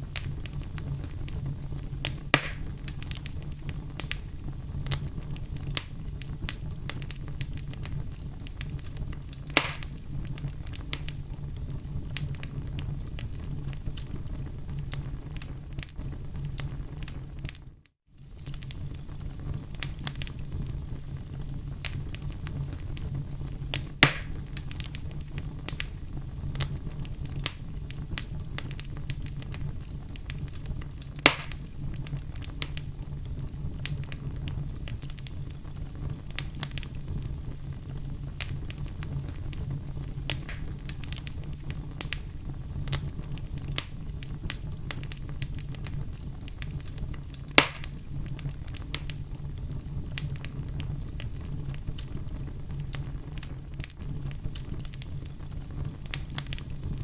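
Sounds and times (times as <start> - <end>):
fire crackling: 0.0 - 57.0
low rumble of flames: 0.0 - 57.0
sharp pops from fire: 0.0 - 57.0.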